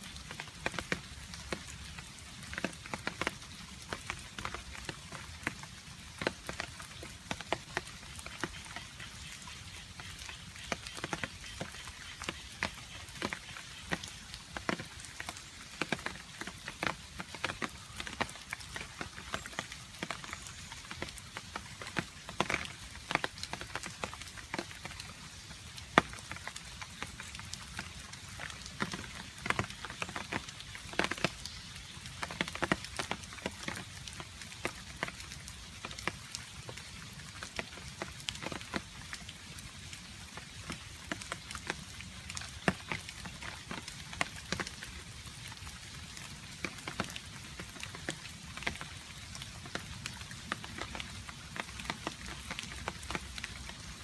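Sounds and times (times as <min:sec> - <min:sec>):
rain falling: 0:00.0 - 0:54.0
water drops dripping on a surface: 0:00.0 - 0:54.0.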